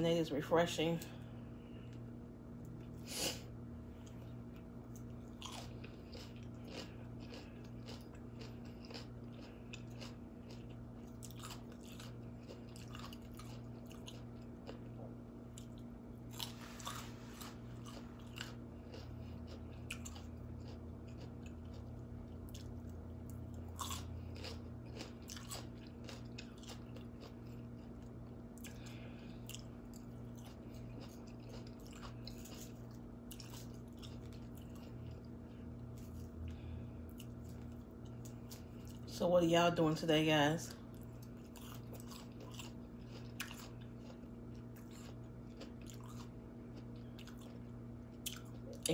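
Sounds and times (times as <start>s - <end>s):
low electrical hum: 0.0s - 48.9s
chewing raw vegetables: 4.0s - 39.1s, 40.7s - 48.9s.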